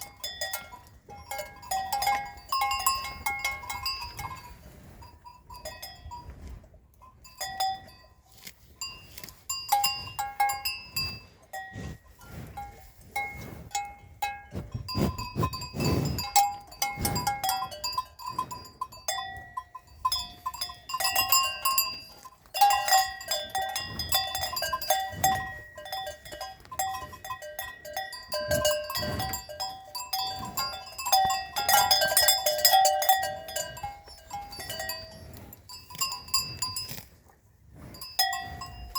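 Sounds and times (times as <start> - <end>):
cattle bells clanking: 0.0 - 38.9.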